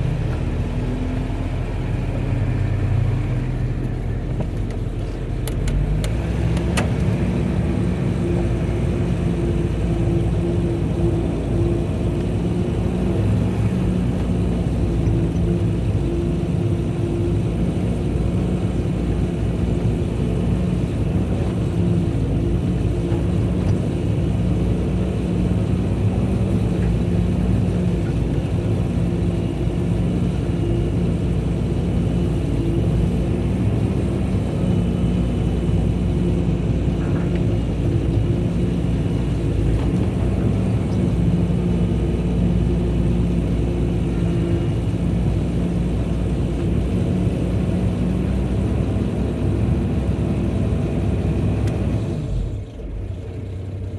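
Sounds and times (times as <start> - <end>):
excavator engine droning: 0.0 - 53.9.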